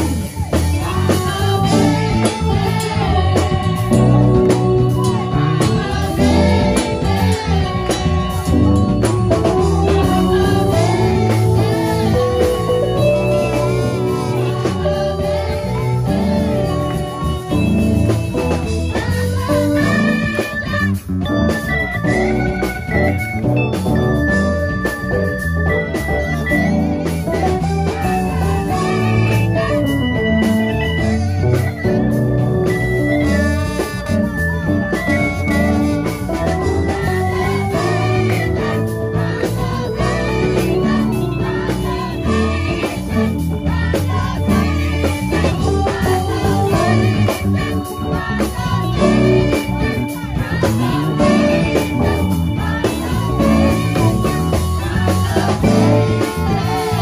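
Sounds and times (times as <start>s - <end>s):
gospel choir singing: 0.0s - 57.0s
organ chords: 0.0s - 57.0s.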